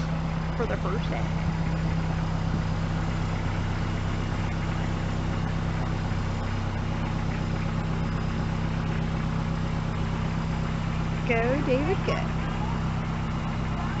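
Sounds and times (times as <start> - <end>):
tractor engine running at low revs: 0.0 - 14.0.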